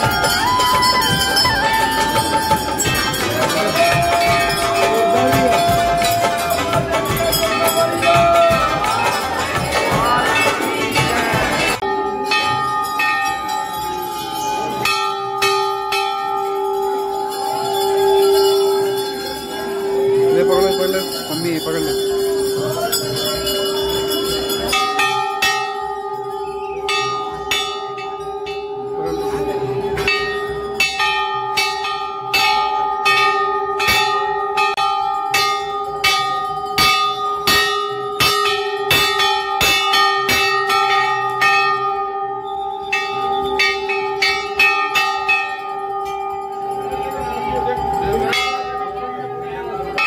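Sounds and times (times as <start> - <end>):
brass bells ringing: 0.0 - 50.0.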